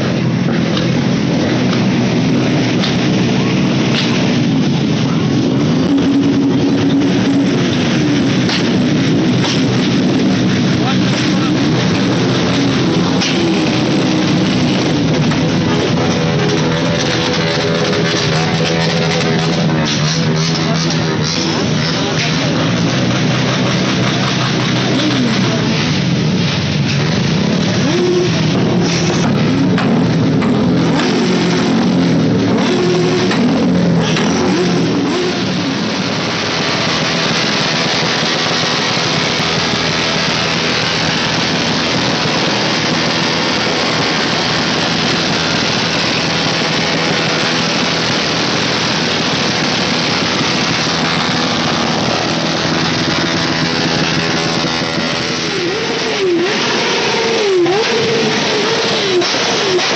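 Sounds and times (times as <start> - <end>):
crowd: 0.0 - 59.9
motorcycle engine revving: 0.0 - 59.9.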